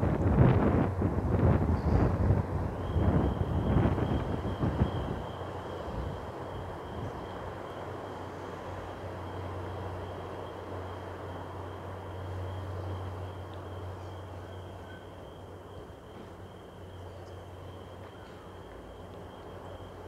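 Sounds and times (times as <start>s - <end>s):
ferry engines droning: 0.0s - 20.0s
thin high whine: 0.2s - 20.0s.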